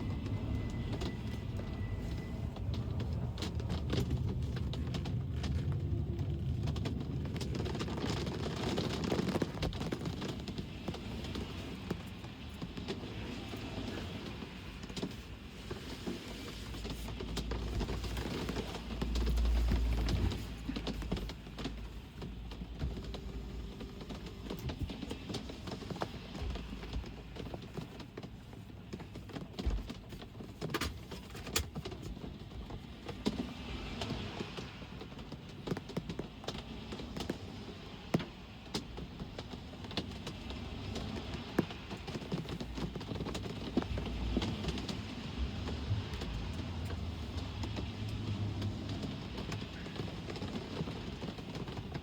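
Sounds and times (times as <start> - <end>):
road traffic rumble: 0.0 - 30.1, 30.8 - 52.0
rain falling: 0.0 - 52.0.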